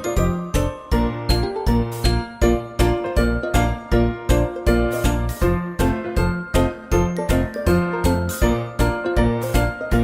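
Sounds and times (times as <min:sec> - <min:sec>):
cheerful children's music: 0:00.0 - 0:10.0.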